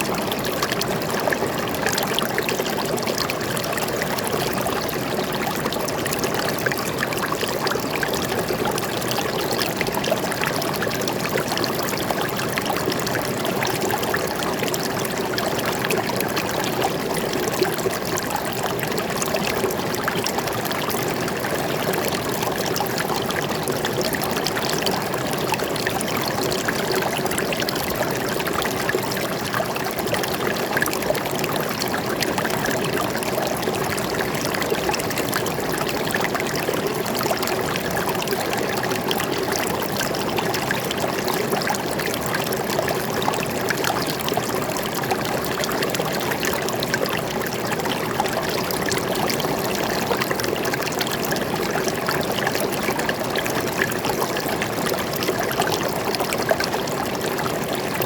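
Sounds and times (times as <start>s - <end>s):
stream water flowing and splashing: 0.0s - 58.0s.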